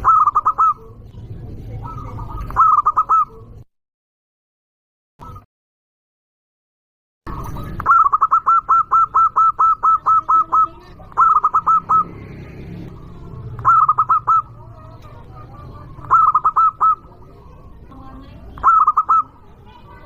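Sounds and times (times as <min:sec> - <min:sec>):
dove cooing: 0:00.0 - 0:03.6, 0:07.3 - 0:20.0.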